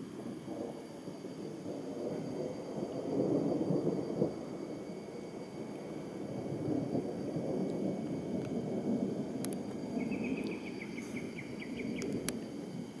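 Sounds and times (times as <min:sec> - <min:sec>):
thunderstorm rumble: 0:00.0 - 0:13.0.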